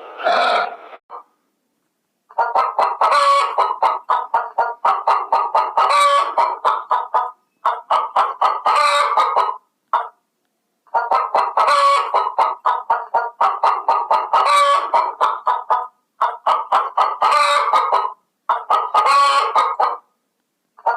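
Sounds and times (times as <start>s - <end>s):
chicken squawking: 0.0s - 1.2s, 2.3s - 10.1s, 10.9s - 20.1s
chicken clucking: 0.0s - 1.3s, 2.3s - 10.2s, 10.9s - 20.1s.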